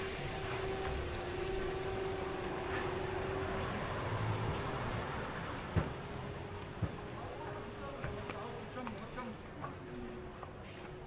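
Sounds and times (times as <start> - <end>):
vehicles passing: 0.0 - 11.0.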